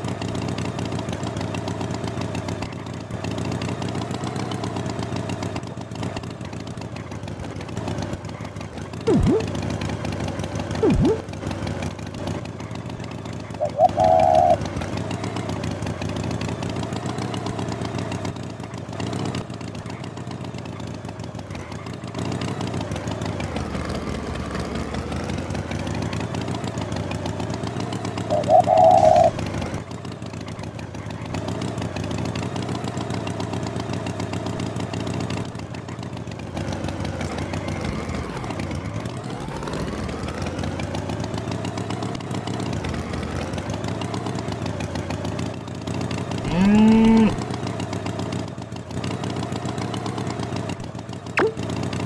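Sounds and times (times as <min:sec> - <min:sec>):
engine running: 0:00.0 - 0:52.0.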